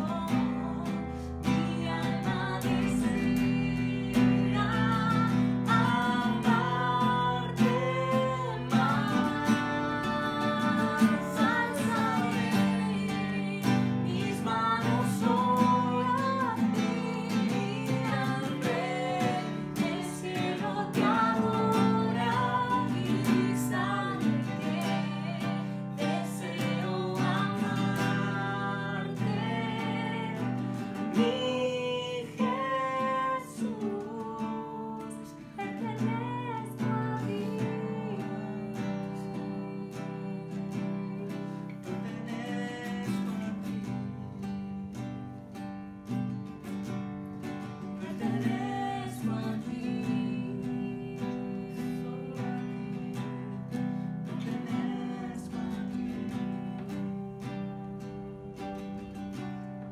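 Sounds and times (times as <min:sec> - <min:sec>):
person singing: 0:00.0 - 0:44.0, 0:48.0 - 0:59.2
strummed acoustic guitar: 0:00.0 - 0:59.9.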